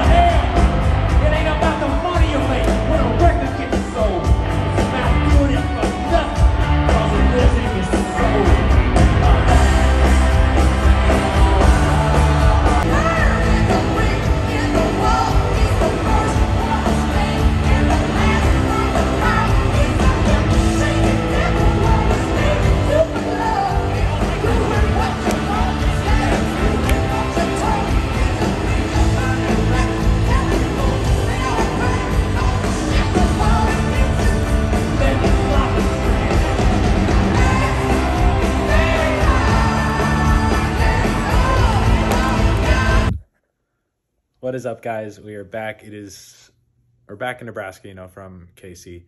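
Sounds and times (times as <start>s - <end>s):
crowd yelling and whooping: 0.0s - 3.4s, 7.0s - 43.1s
rock band with singer: 0.0s - 43.2s.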